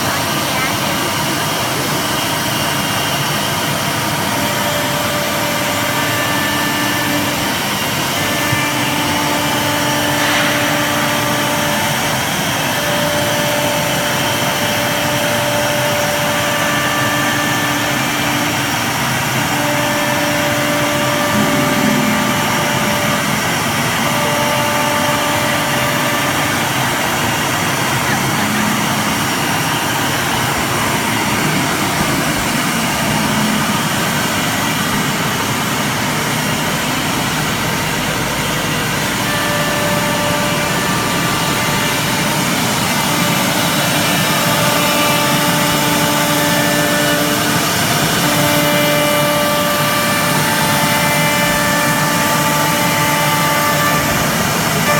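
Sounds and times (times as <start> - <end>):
short steady tones: 0.0 - 54.9
wood router machine rush: 0.0 - 54.9.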